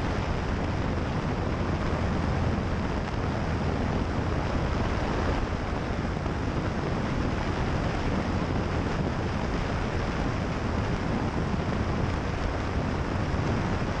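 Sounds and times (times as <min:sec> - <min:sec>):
light aircraft engine drone: 0:00.0 - 0:14.0
wind rushing over microphone: 0:00.0 - 0:14.0.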